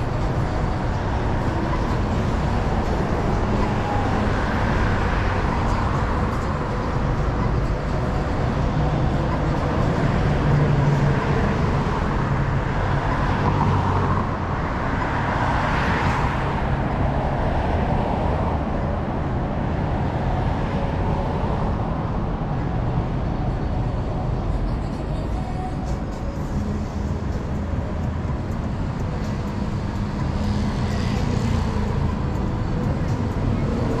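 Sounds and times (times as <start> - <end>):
city road traffic hum: 0.0 - 34.0.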